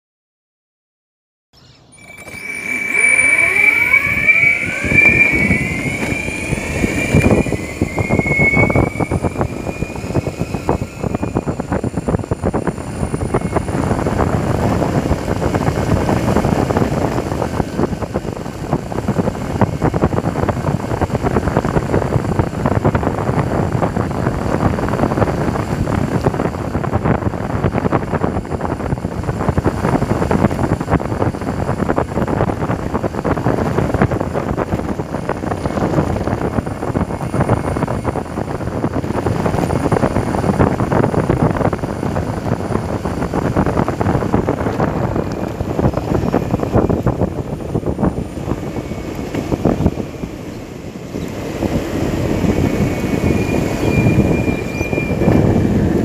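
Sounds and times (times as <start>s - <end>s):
electric motors whining: 1.6s - 56.0s
rushing of wheels and wind: 1.6s - 56.0s.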